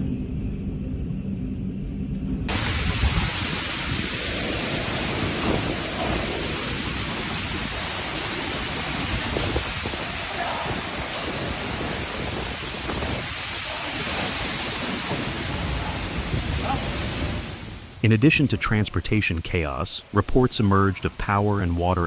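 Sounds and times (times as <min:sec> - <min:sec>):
strong wind: 0:00.0 - 0:18.0
heavy rain: 0:02.5 - 0:22.0.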